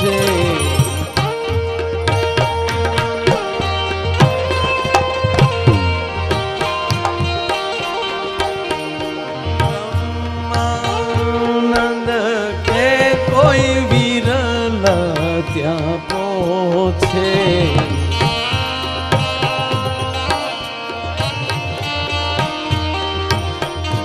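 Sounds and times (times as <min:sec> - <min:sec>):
harmonium: 0:00.0 - 0:24.0
ornamented lead melody: 0:00.0 - 0:24.0
tabla and dholak beat: 0:00.0 - 0:24.0.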